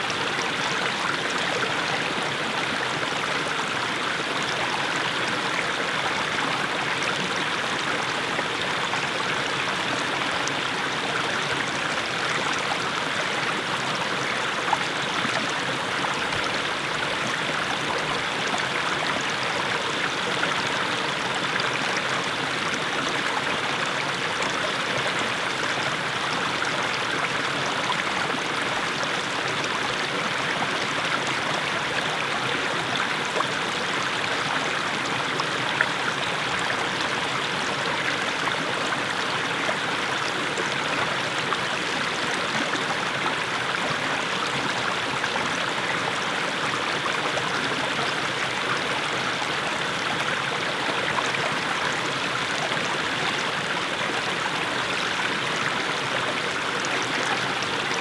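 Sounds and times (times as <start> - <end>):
stream babbling over stones: 0.1 - 58.0.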